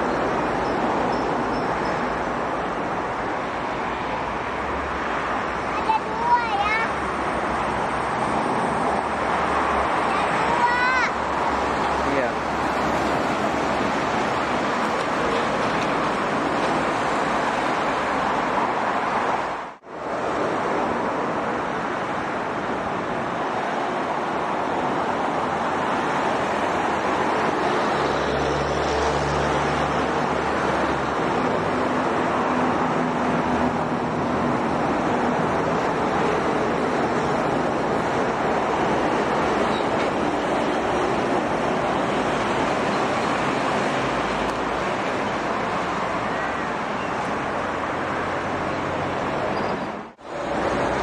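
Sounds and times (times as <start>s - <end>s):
dense highway traffic roar: 0.0s - 51.0s.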